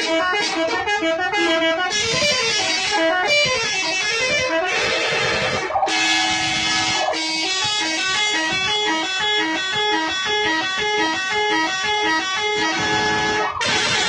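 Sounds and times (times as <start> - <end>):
bus horn playing a melody: 0.0 - 14.0.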